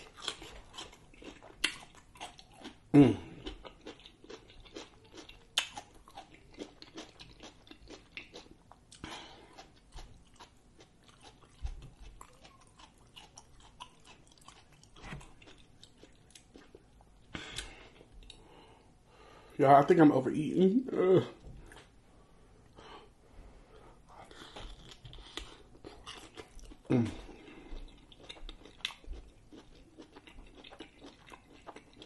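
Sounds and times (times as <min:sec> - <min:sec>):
person chewing food: 0:00.0 - 0:18.8, 0:21.4 - 0:22.0, 0:23.7 - 0:32.0.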